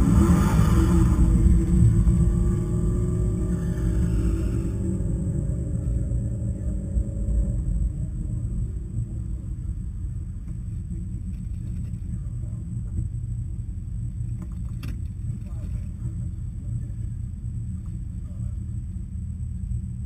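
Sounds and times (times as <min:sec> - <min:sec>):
car engine idling low rumble: 0:00.0 - 0:20.0
higher engine tone: 0:00.0 - 0:20.0.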